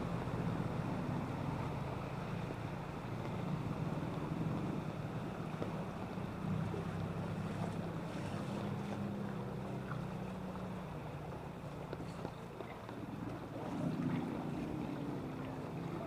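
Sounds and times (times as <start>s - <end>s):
low engine hum: 0.0s - 16.0s
water rushing: 0.0s - 16.0s.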